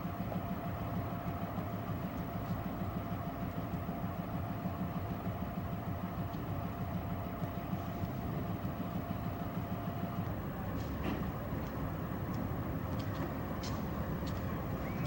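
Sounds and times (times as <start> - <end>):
diesel locomotive engine rumble: 0.0 - 15.0
thin steady whine: 0.0 - 15.0.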